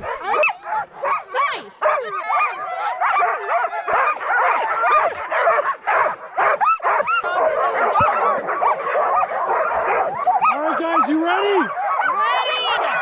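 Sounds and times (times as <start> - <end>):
dogs barking yipping and whining: 0.0 - 13.0.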